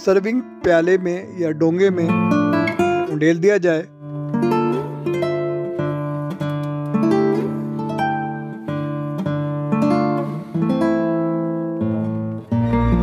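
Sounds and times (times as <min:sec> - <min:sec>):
plucked acoustic guitar melody: 0:00.0 - 0:13.0.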